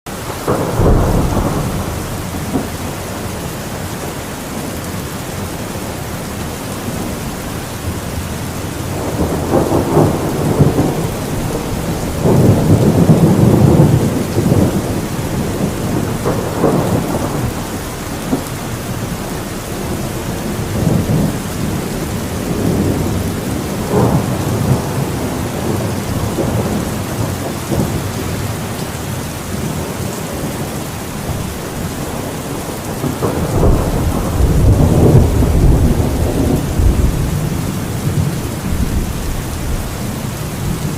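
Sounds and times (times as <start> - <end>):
heavy rain falling: 0.1 - 40.9
thunder rumbling: 0.1 - 40.9.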